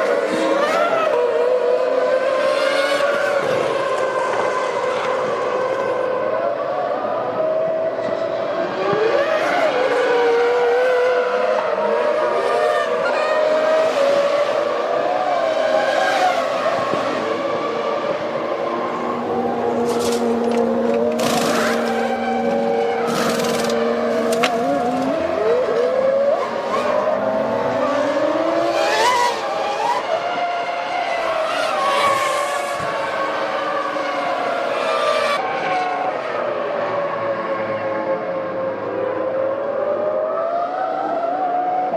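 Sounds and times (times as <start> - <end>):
racing car engines at high revs: 0.0 - 41.9.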